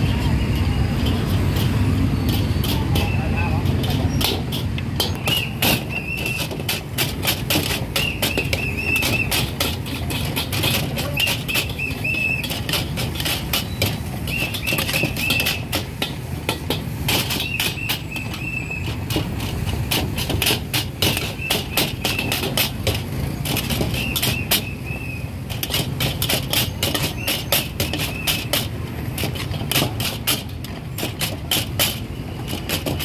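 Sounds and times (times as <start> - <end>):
metal ladle clanking on wok: 0.4 - 33.0.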